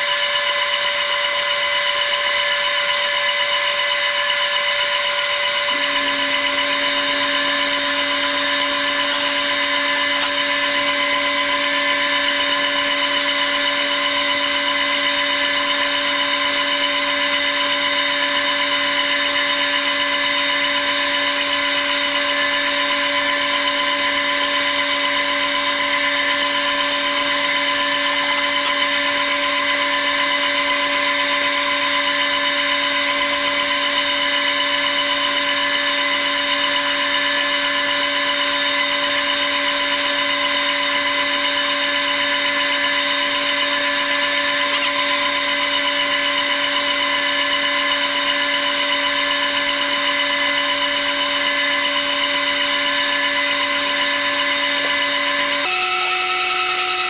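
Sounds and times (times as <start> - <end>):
metal lathe whining: 0.0 - 57.0.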